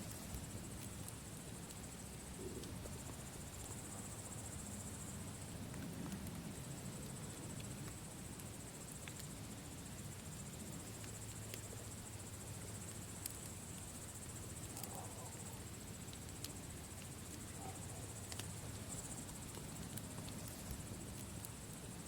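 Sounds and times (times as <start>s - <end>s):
campfire crackling: 0.0s - 22.0s
crickets chirring: 0.0s - 22.0s.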